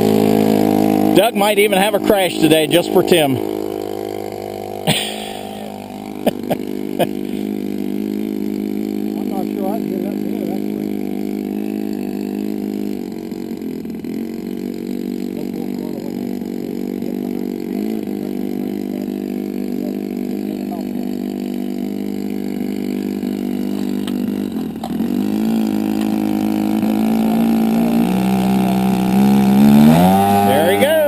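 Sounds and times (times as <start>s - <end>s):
model airplane engine running: 0.0s - 31.0s.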